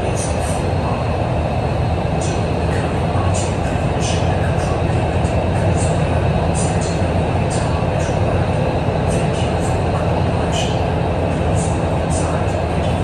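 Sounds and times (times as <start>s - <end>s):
faint public-address announcement: 0.0s - 13.0s.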